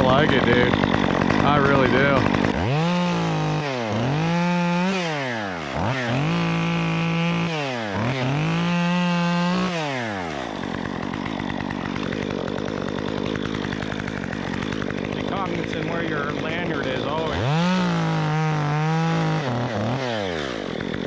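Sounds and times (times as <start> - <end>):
chainsaw revving while cutting: 0.0 - 21.0.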